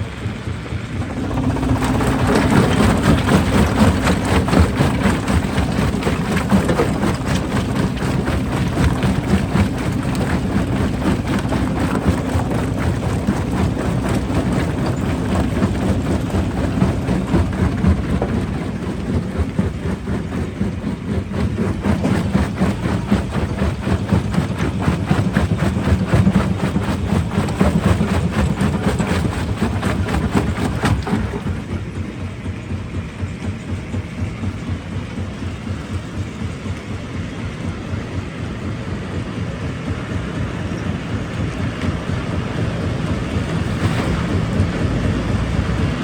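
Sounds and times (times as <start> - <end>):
machinery diesel hum: 0.0 - 46.0.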